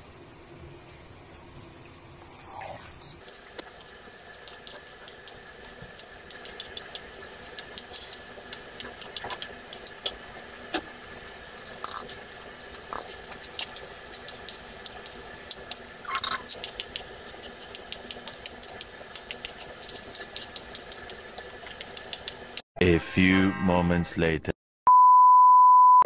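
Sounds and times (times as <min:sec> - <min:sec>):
steady mechanical hum: 0:00.0 - 0:22.6.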